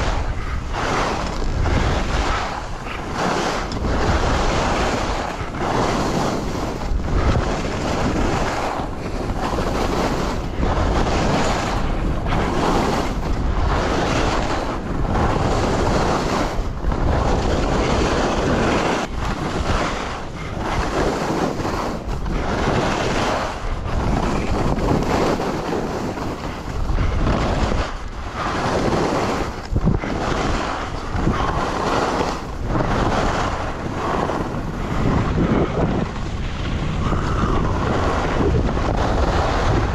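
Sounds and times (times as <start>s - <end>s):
skis scraping through snow: 0.0s - 39.9s
wind noise on microphone: 0.0s - 39.9s.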